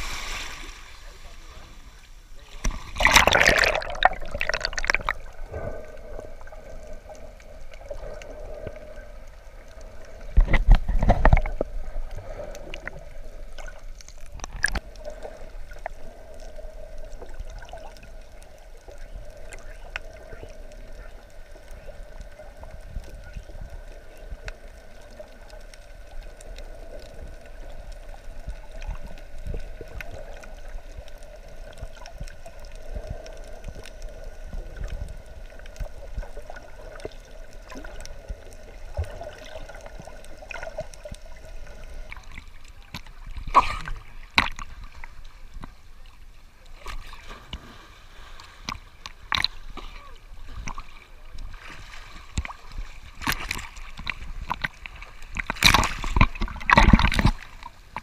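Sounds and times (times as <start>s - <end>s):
faint water gurgling: 0.0s - 58.0s.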